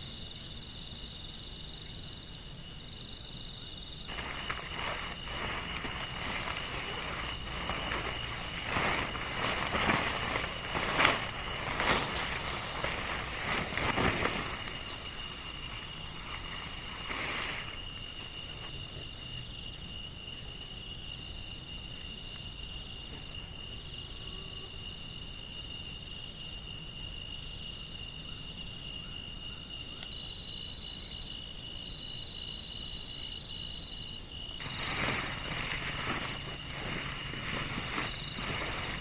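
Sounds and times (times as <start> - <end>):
chorus of insects: 0.0 - 39.0.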